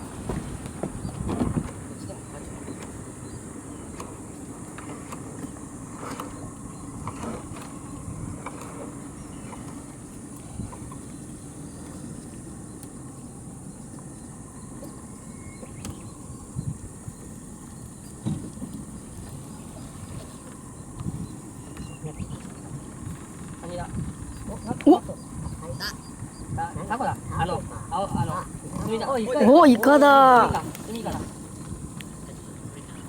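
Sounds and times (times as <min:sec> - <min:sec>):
boat motor running: 0:00.0 - 0:33.0.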